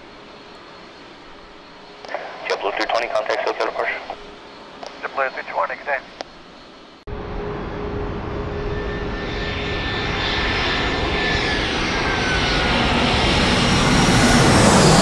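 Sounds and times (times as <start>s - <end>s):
jet airliner roar: 0.0s - 15.0s
jet engine high whine: 0.0s - 15.0s.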